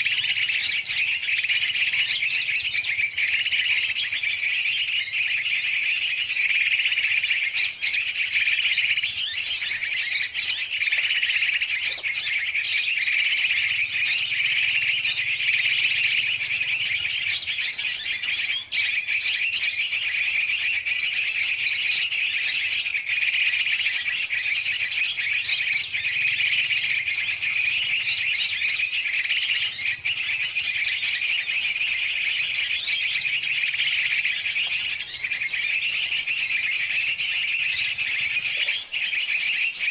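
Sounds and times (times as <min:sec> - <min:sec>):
birds chattering: 0:00.0 - 0:39.9
high rattling bird trill: 0:00.0 - 0:39.9.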